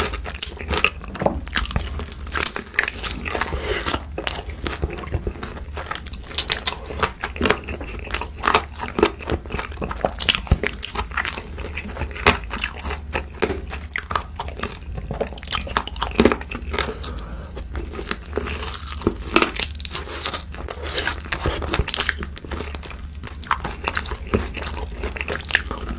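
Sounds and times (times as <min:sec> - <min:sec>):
crunching and chewing food: 0:00.0 - 0:25.9
low steady hum: 0:00.0 - 0:25.9.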